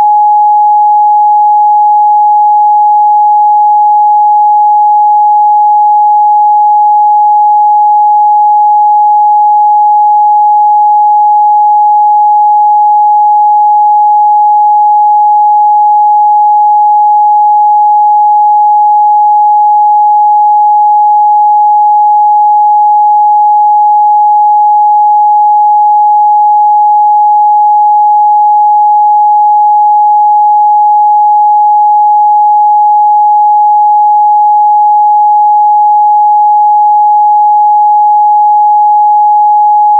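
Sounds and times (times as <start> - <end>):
pure sine test tone: 0.0 - 39.9.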